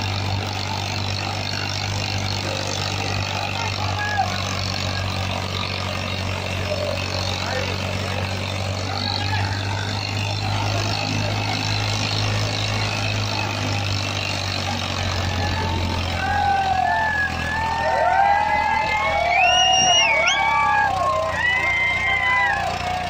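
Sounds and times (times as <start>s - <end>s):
tractor diesel engine running hard: 0.0s - 23.0s
voices shouting: 0.0s - 23.0s.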